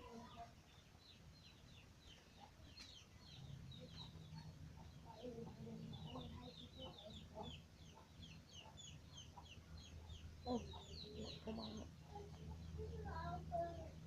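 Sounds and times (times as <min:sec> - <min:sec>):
chicks peeping: 0:00.0 - 0:14.0
chickens clucking: 0:02.1 - 0:14.0.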